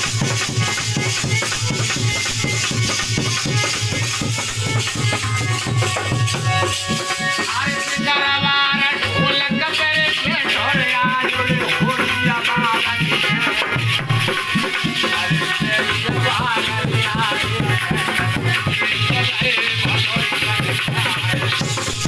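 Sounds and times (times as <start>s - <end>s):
rattle shaking: 0.0s - 8.3s, 9.8s - 22.0s
hand drum rhythm: 0.0s - 22.0s.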